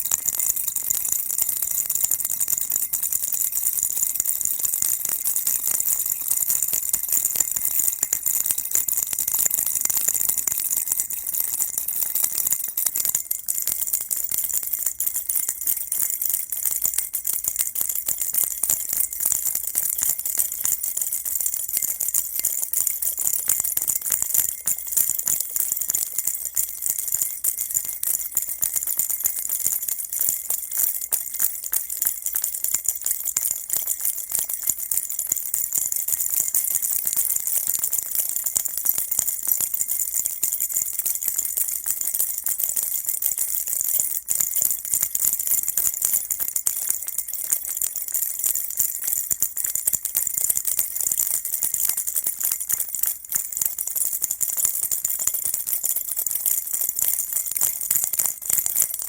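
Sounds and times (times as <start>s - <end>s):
baby rattle shaken: 0.0s - 55.2s.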